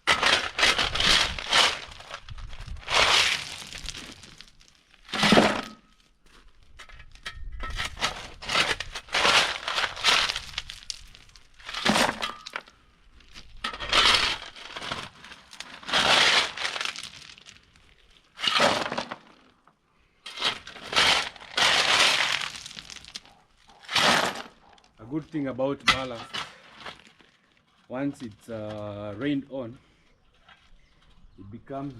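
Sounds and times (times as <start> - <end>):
loose stones clattering: 0.0 - 29.4.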